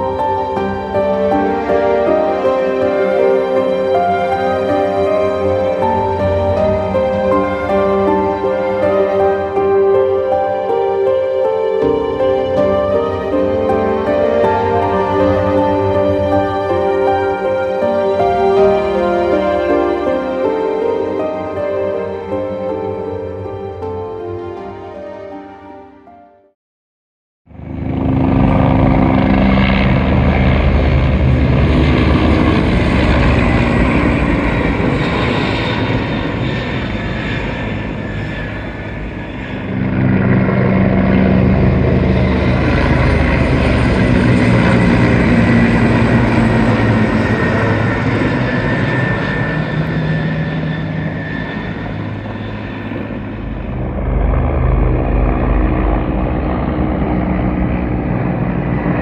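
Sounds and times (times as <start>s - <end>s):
aircraft engine drone: 0.0s - 25.5s, 27.5s - 59.0s.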